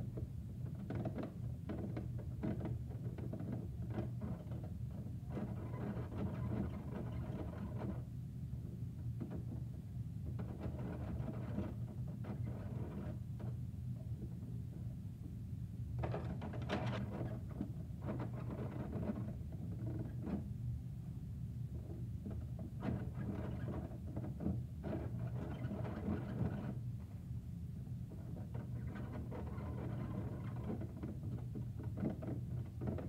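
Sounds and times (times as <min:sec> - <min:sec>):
steady low hum: 0:01.5 - 0:33.0.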